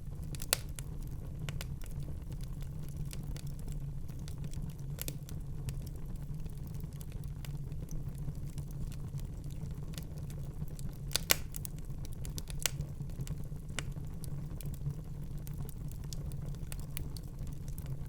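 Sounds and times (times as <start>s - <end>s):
fire popping and snapping: 0.0s - 18.0s
fire rumbling: 0.0s - 18.0s.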